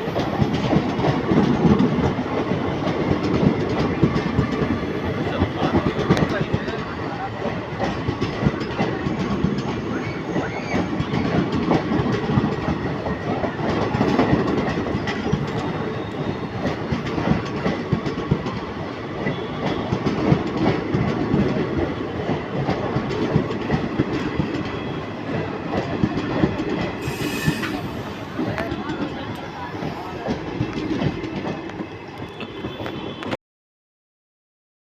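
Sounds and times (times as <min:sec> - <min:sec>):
train rumble: 0:00.0 - 0:33.4.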